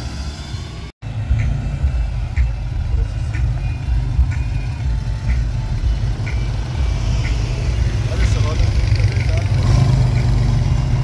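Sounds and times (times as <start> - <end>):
car engine rumbling at low revs: 1.0 - 11.0.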